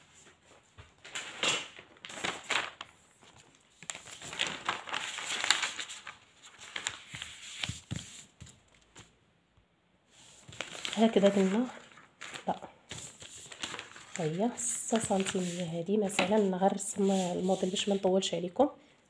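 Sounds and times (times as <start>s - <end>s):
paper rustling and crinkling: 0.2s - 9.1s, 10.2s - 18.1s.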